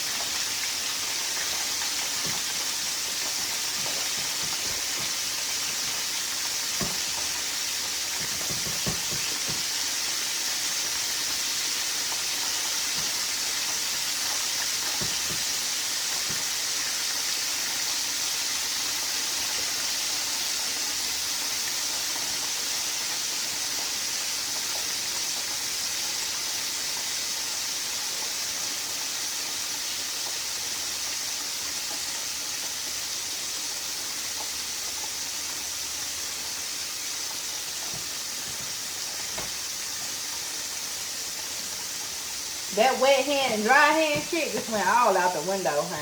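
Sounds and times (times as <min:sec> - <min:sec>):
fish deep-frying sizzling: 0:00.0 - 0:46.0.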